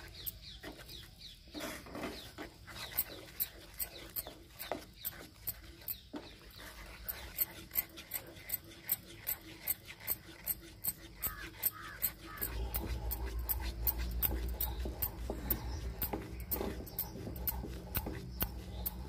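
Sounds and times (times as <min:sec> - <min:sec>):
wooden spatula scraping a pan: 0:00.0 - 0:19.0.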